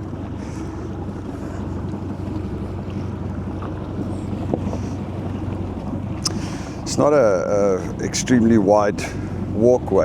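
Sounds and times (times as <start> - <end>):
boat engine droning: 0.0 - 10.0
wind buffeting microphone: 0.0 - 10.0.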